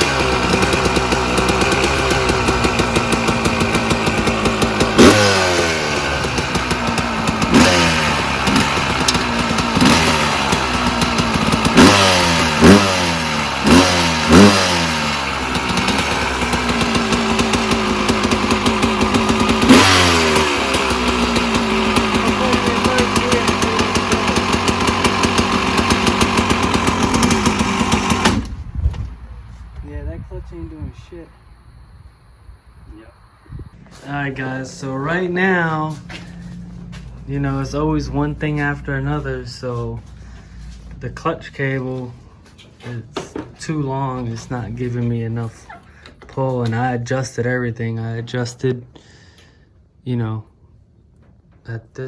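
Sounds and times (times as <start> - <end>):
dirt bike engine revving: 0.0 - 30.1, 33.1 - 47.0.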